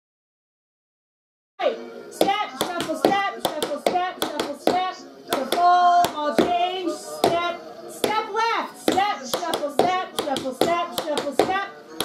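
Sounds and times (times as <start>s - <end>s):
person singing: 1.6s - 12.0s.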